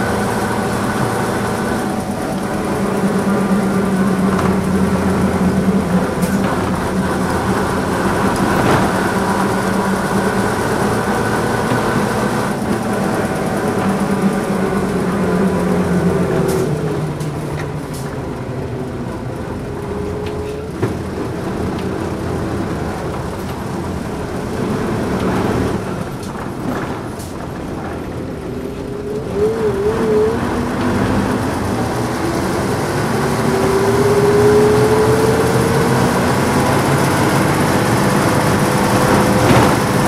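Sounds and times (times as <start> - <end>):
bus diesel engine droning: 0.0 - 40.0.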